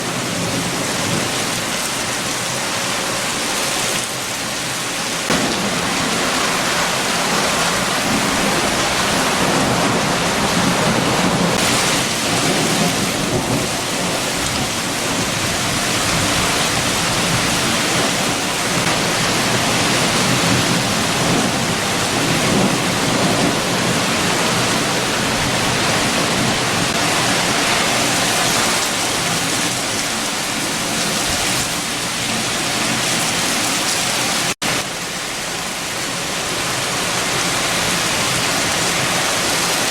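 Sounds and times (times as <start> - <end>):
heavy rain: 0.0 - 39.9
strong wind: 0.0 - 39.9.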